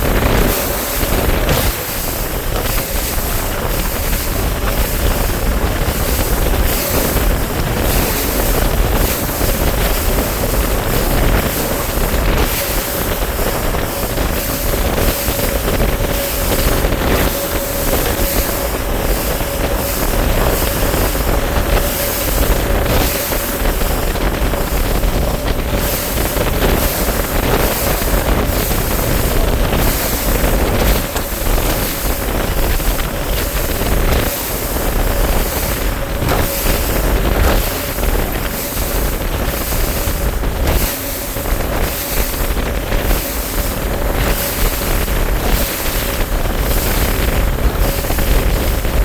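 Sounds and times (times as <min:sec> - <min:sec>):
outboard motor whining: 0:00.0 - 0:49.0
wind on microphone: 0:00.0 - 0:49.0.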